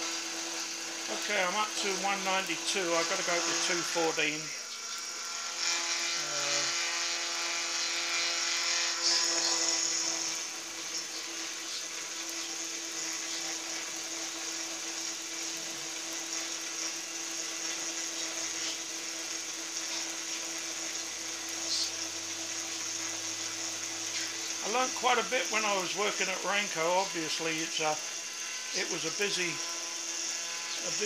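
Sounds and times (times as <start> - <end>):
cutter hissing through metal: 0.0 - 31.0
milling machine motor hum: 0.0 - 31.0.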